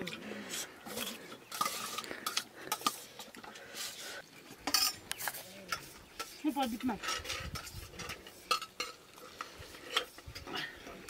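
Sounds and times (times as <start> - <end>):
spoons scraping metal plates: 0.4 - 11.0.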